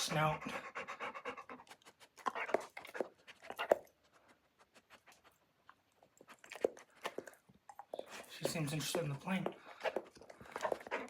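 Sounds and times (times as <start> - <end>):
dog sniffing: 0.0 - 11.0.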